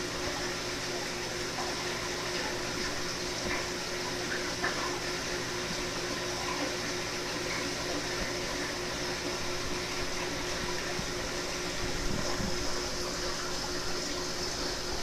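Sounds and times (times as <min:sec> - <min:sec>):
aquarium pump hum: 0:00.0 - 0:15.0
aquarium water circulation hiss: 0:00.0 - 0:15.0.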